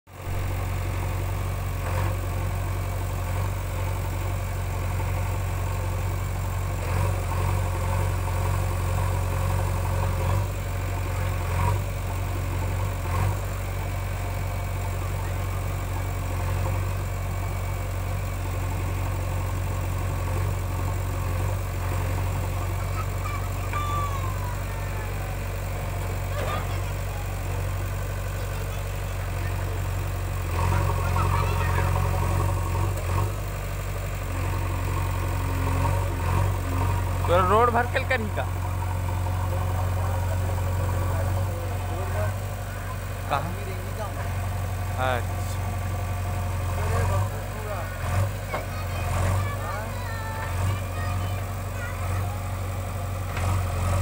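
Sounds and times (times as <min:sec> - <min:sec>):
diesel engine humming: 0:00.1 - 0:54.0.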